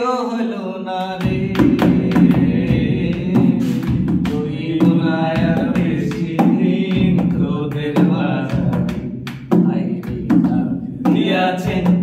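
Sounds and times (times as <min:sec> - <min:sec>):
person singing: 0:00.0 - 0:09.0, 0:09.6 - 0:12.0
steady drum beat: 0:01.1 - 0:12.0.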